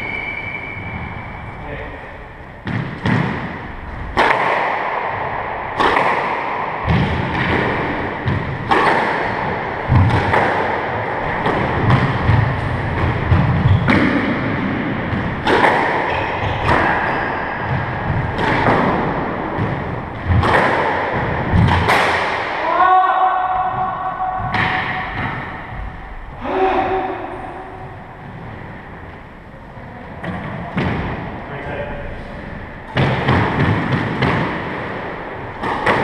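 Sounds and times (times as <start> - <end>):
racket hitting squash ball: 0.0 - 29.3, 30.2 - 31.4, 32.3 - 36.0.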